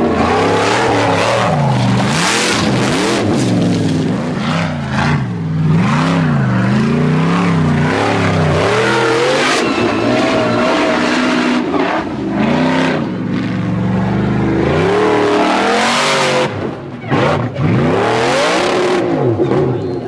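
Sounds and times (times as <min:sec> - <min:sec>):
buggy engine revving hard: 0:00.0 - 0:20.0.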